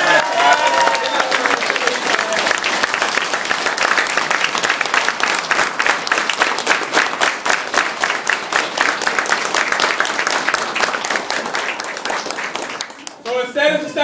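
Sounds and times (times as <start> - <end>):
crowd applauding: 0.0 - 13.5.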